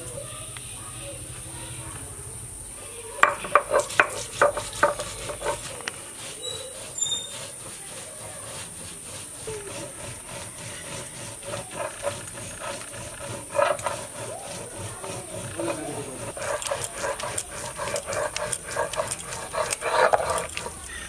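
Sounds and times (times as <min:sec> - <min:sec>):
stone grinding on stone: 0:03.1 - 0:21.0
stone roller knocking on stone slab: 0:03.2 - 0:21.0.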